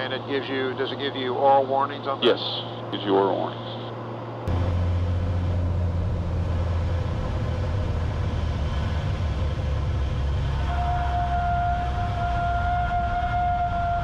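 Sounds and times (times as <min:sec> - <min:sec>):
propeller plane engine: 0:00.0 - 0:14.0.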